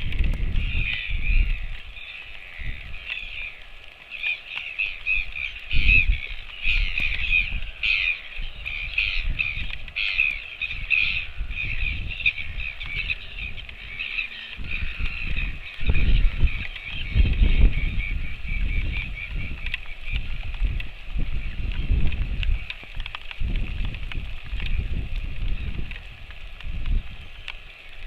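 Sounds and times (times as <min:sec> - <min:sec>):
birds chattering and calling: 0:00.0 - 0:26.1.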